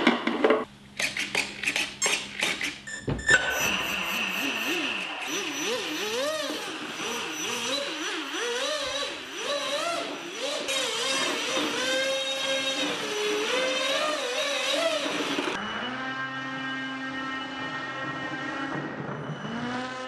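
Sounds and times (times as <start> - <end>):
electric motor and propeller whine: 3.4 - 20.0.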